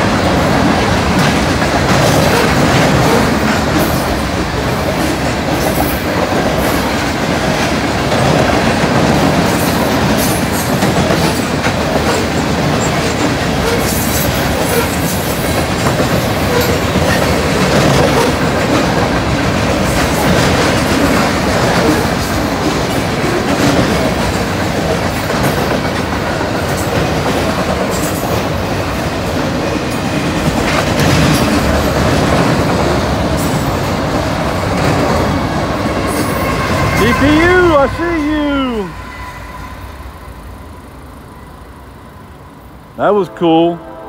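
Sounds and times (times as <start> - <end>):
clickety-clack over rail joints: 0.0 - 38.0
freight train wheels rumbling: 0.0 - 44.0.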